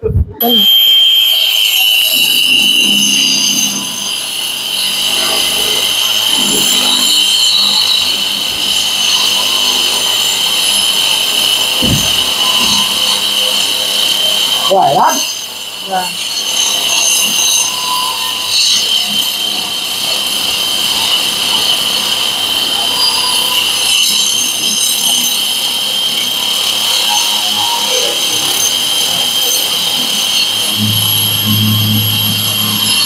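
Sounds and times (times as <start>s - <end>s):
wall chaser whining: 0.0s - 33.0s.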